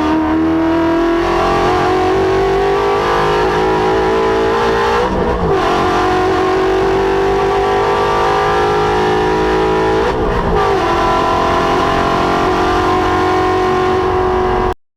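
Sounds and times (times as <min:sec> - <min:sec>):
car engine revving hard: 0:00.0 - 0:14.8.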